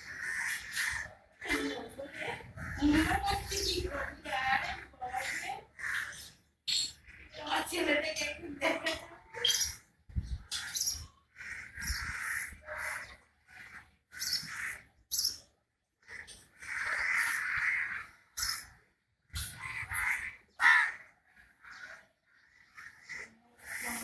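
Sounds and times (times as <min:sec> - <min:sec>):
screechy animal calls: 0:00.0 - 0:01.3, 0:02.2 - 0:07.4, 0:10.5 - 0:18.8, 0:19.4 - 0:24.0.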